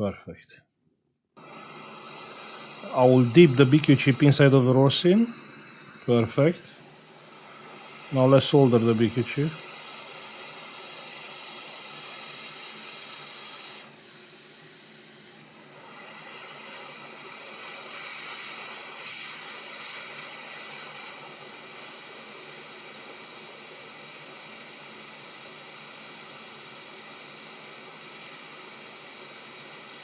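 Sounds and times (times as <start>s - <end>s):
hot air station hissing: 1.4s - 30.0s.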